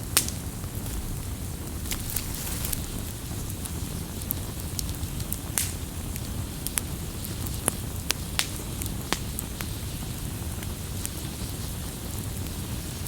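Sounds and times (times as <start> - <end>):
campfire crackling and popping: 0.2 - 12.6.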